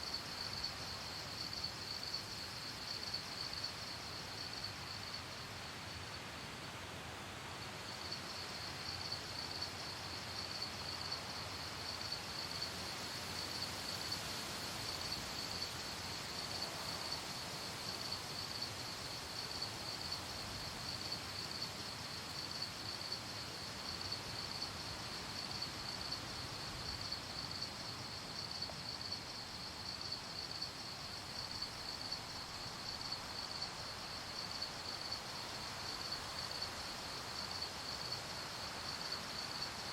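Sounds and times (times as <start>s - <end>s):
crickets chirping: 0.0s - 6.2s, 7.6s - 39.9s
faint background hiss: 0.0s - 39.9s.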